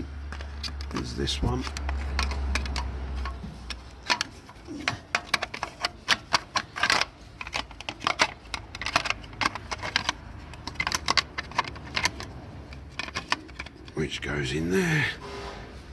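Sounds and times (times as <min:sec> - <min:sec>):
sheet metal clicks and clatter: 0:00.6 - 0:14.0.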